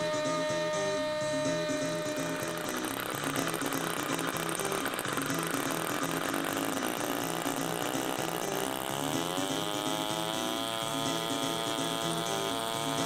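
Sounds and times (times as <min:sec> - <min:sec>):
model rotary engine running: 0:00.0 - 0:13.0.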